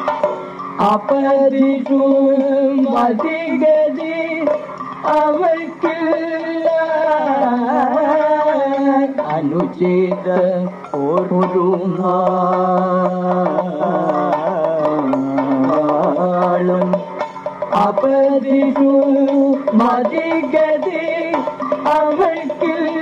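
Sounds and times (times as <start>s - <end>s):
sparse percussion strokes: 0.0s - 23.0s
men singing slow melody: 0.6s - 23.0s.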